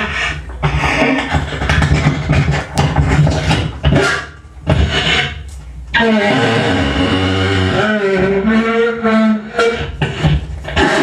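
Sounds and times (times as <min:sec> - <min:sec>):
beatbox-like vocal noises: 0:00.0 - 0:11.0.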